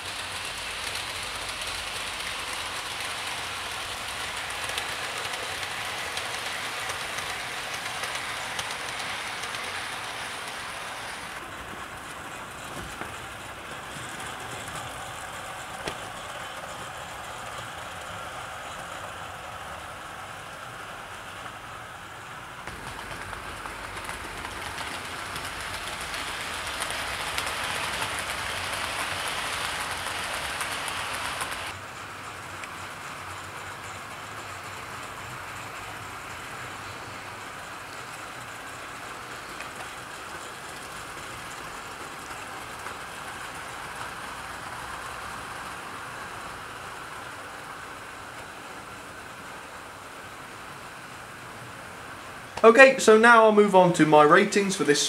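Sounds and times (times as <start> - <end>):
model train wheels whirring: 0.0 - 55.0.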